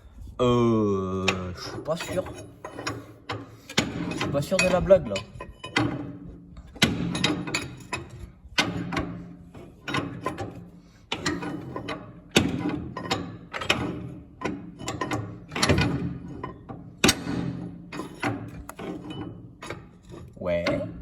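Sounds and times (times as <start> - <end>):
metal tools knocking on metal parts: 1.3 - 21.0.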